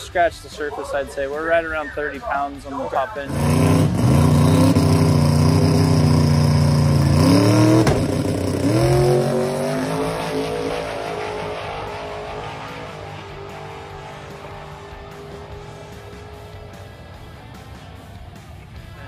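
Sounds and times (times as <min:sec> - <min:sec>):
drag car engine revving: 0:03.2 - 0:18.7.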